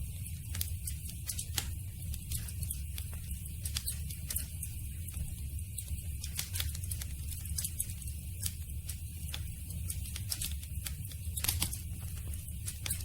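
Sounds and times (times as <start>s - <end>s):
low fire rumble: 0.0s - 13.0s
campfire crackling and popping: 0.2s - 13.0s.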